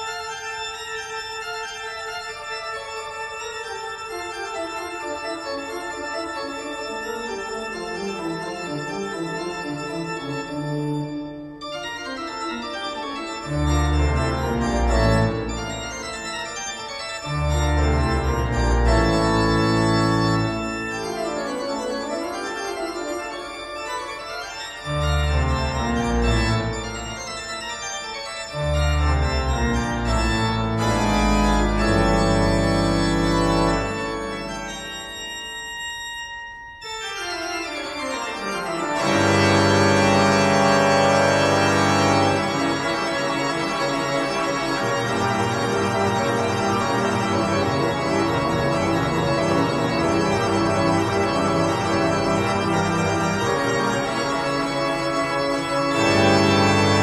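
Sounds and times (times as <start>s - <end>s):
organ chords: 0.0s - 57.0s.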